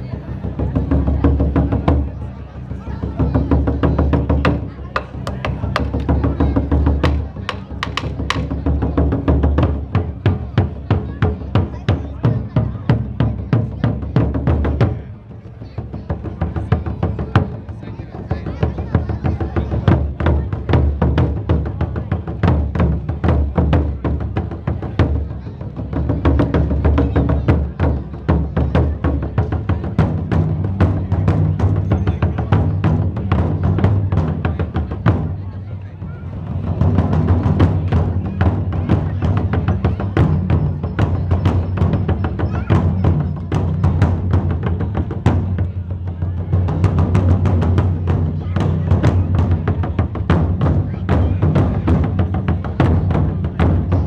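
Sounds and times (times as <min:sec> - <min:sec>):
deep taiko drum strokes: 0:00.0 - 0:54.0
quick sharp drum strokes: 0:00.5 - 0:54.0.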